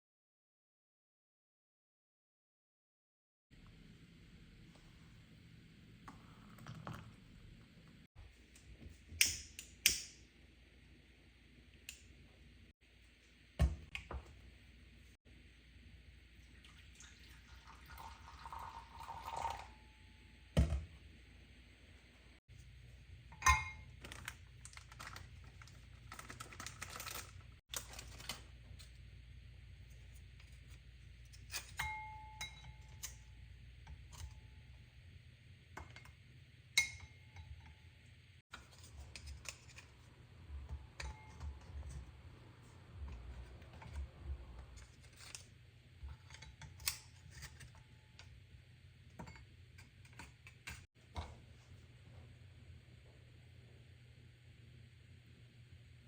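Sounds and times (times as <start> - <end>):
low steady hum: 3.5 - 56.0.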